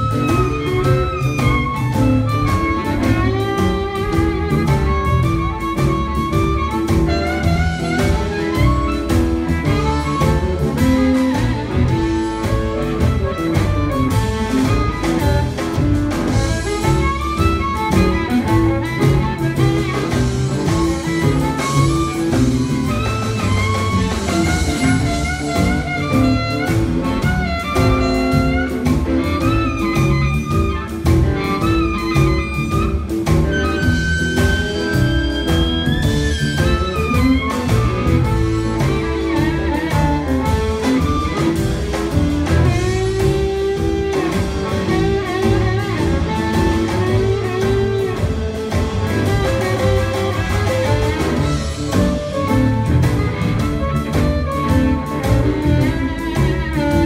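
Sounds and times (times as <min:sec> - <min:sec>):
bass line: 0:00.0 - 0:57.0
blues guitar melody: 0:00.0 - 0:57.0
drum beat: 0:00.0 - 0:57.0.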